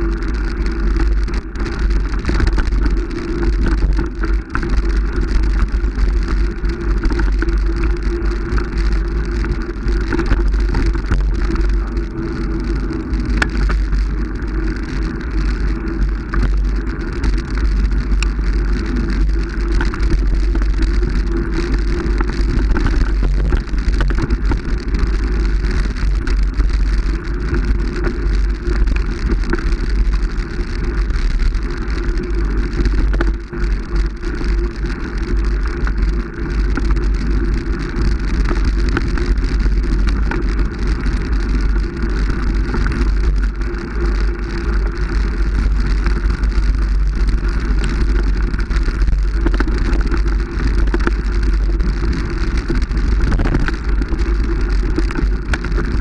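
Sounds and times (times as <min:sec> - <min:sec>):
motor vehicle running: 0:00.0 - 0:56.0.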